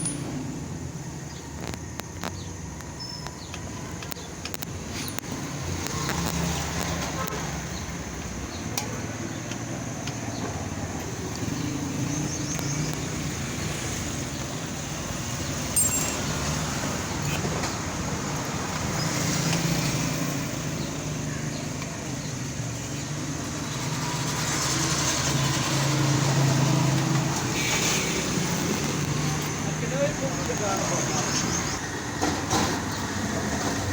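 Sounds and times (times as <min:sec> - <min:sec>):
road traffic noise: 0:00.0 - 0:33.9.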